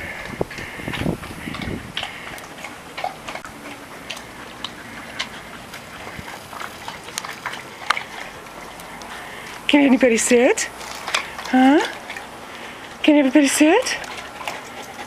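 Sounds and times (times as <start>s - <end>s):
dog lapping water: 0.0s - 15.0s.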